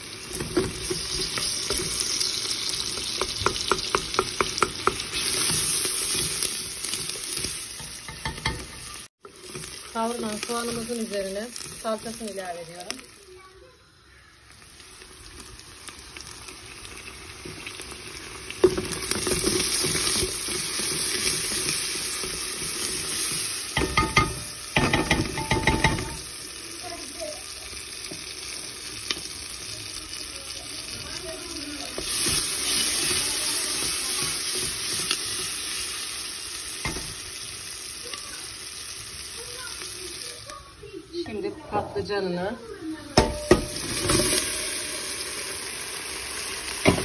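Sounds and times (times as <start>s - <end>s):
food sizzling in hot oil: 0.0s - 47.0s.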